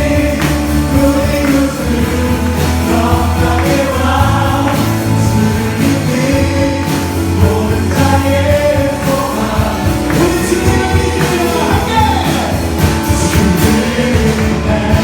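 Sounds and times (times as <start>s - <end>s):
group singing: 0.0s - 15.0s
rock band playing: 0.0s - 15.0s.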